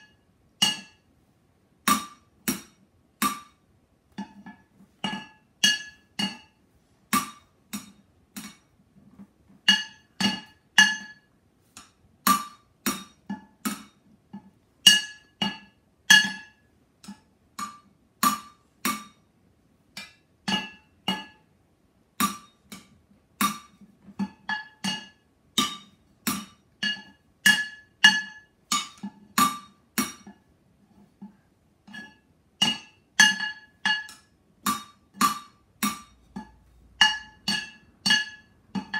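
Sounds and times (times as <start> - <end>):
drumsticks beating metal pots: 0.0 - 1.1, 1.8 - 19.3, 19.9 - 21.5, 22.2 - 38.9.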